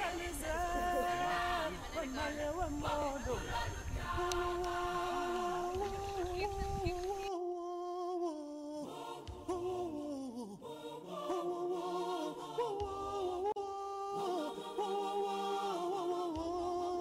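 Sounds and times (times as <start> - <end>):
a cappella voices singing: 0.0 - 17.0.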